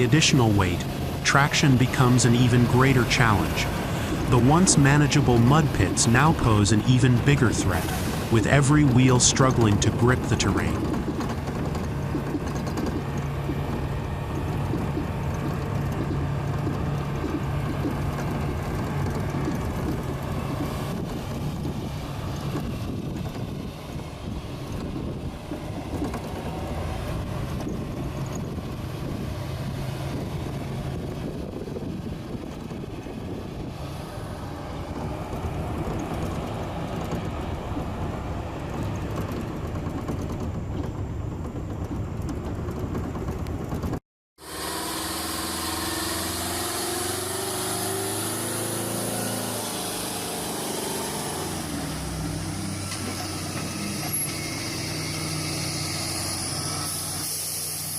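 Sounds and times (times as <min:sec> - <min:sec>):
truck diesel engine running: 0:00.0 - 0:57.9.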